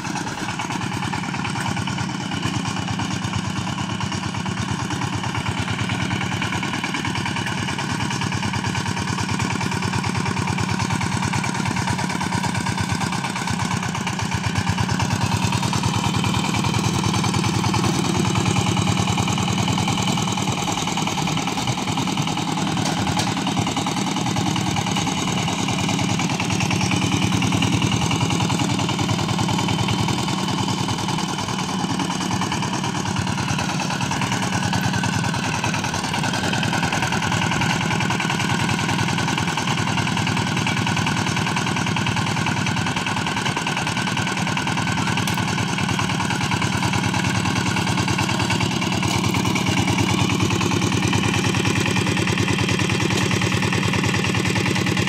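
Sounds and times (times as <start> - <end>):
walk-behind tractor engine running: 0.0 - 55.0.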